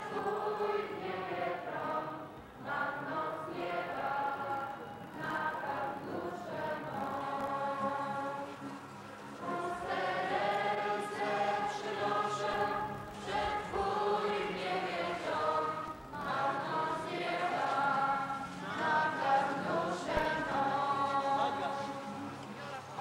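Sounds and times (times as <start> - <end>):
choir singing sustained notes: 0.0 - 23.0.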